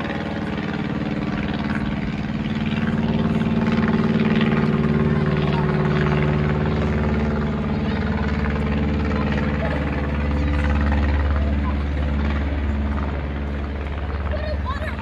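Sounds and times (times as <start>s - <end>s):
propeller plane droning: 0.0s - 15.0s.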